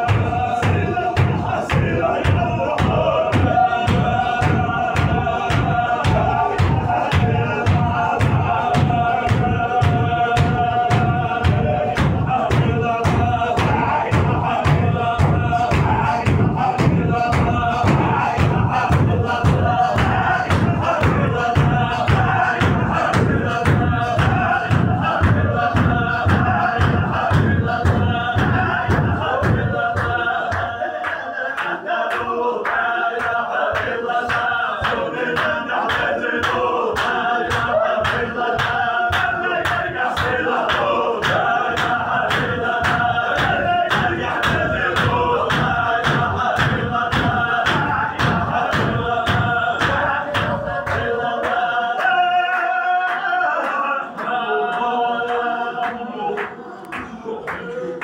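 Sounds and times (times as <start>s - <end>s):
fast heavy low beat: 0.0s - 30.8s, 32.2s - 51.8s
men chanting in unison: 0.0s - 58.0s.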